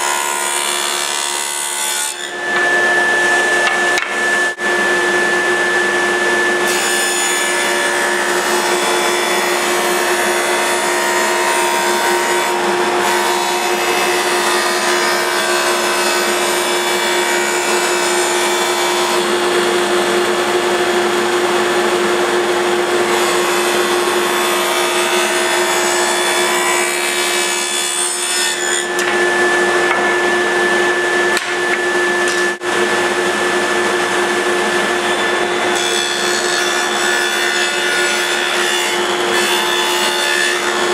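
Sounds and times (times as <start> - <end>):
power tool cutting wood: 0.0 - 40.9.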